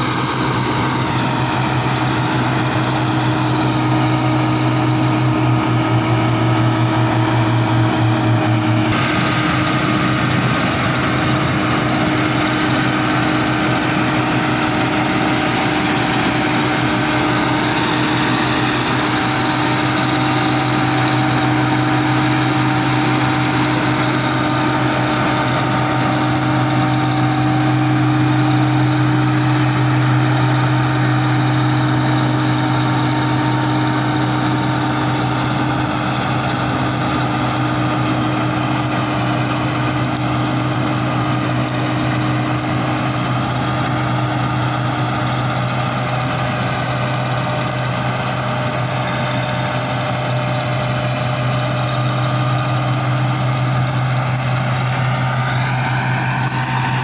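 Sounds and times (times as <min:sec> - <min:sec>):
combine harvester engine hum: 0:00.0 - 0:57.0
machinery whine: 0:00.0 - 0:57.0.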